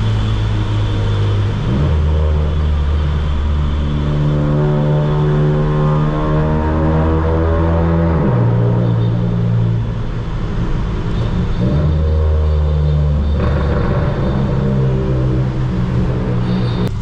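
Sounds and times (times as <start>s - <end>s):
car engine shifting gears: 0.0s - 17.0s.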